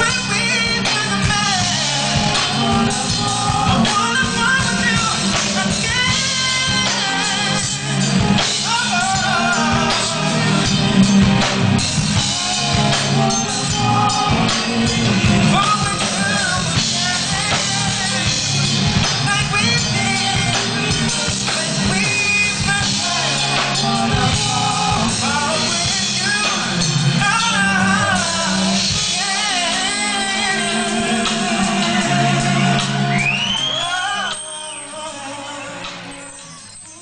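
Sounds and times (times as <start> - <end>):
man singing into a microphone: 0.0 - 11.4, 12.2 - 37.0
drums bass and guitar: 0.0 - 34.9.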